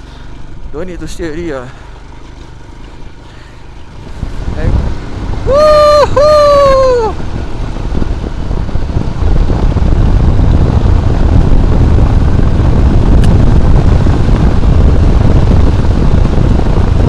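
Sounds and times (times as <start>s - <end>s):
motorcycle engine: 0.0s - 17.0s
wind buffeting microphone: 1.7s - 17.0s.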